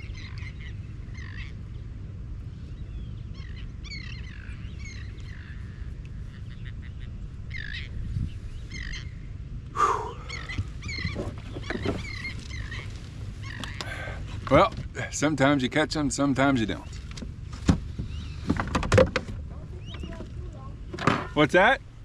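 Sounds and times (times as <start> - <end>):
steady low rumble: 0.0 - 18.5
birds calling: 0.0 - 21.8.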